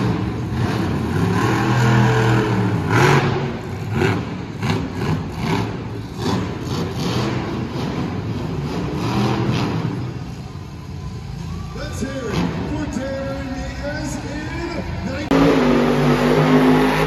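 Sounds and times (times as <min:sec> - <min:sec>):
monster truck engine revving: 0:00.0 - 0:10.8, 0:12.2 - 0:13.3, 0:14.8 - 0:17.0.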